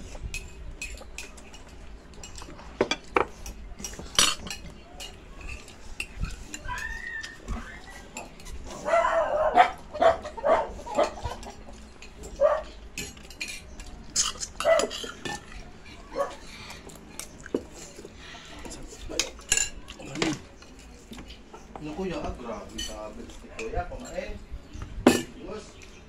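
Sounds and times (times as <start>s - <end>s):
cutlery clinking on plates: 0.1s - 8.9s, 10.9s - 24.3s, 25.0s - 26.0s.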